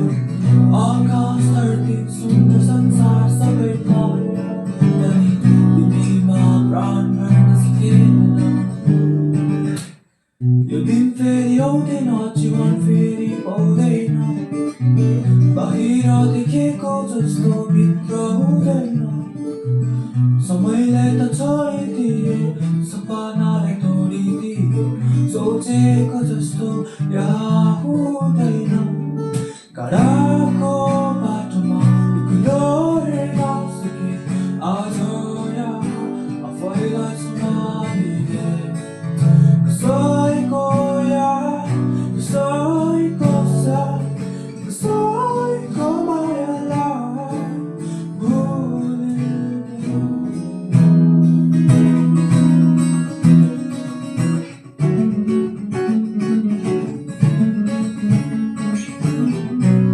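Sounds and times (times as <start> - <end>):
person singing: 0.0 - 8.8, 10.6 - 51.0, 58.8 - 59.9
acoustic guitar: 0.0 - 59.9.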